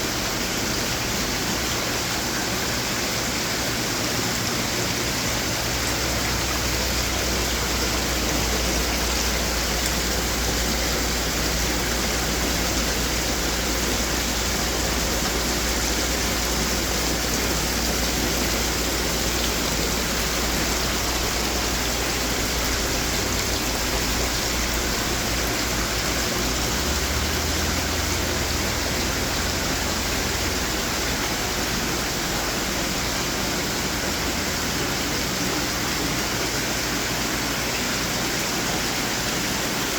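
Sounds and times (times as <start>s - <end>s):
water fountain splashing: 0.0s - 39.9s.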